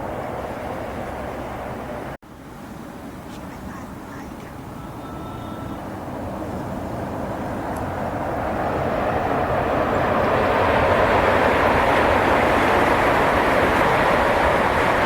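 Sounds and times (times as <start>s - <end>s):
high-speed train rushing roar: 0.0s - 15.0s.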